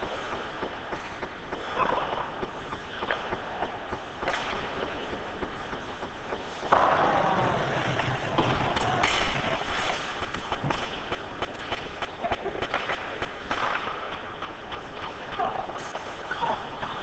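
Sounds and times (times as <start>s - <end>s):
hockey sticks clacking: 0.0s - 17.0s
skates scraping ice: 0.0s - 17.0s.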